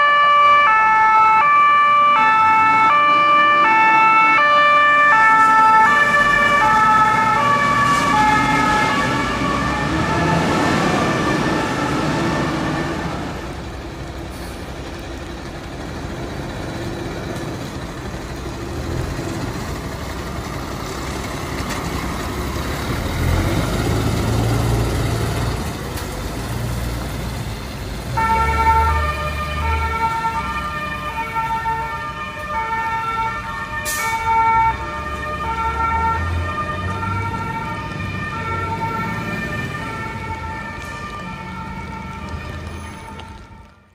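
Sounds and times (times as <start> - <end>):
fire engine siren: 0.0 - 14.6, 21.6 - 43.9
diesel engine rumbling: 0.0 - 43.9.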